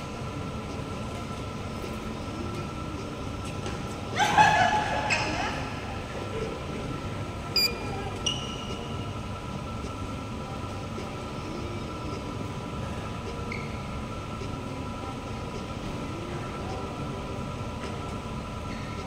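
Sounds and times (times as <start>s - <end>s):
low rumble of sports hall: 0.0s - 19.0s.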